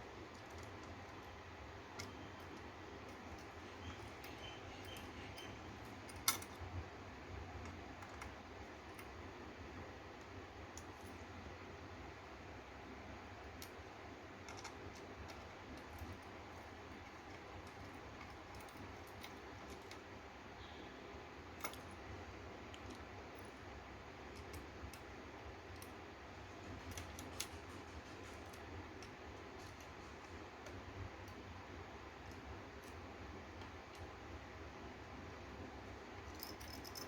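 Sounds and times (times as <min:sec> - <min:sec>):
steady low hiss: 0:00.0 - 0:37.0.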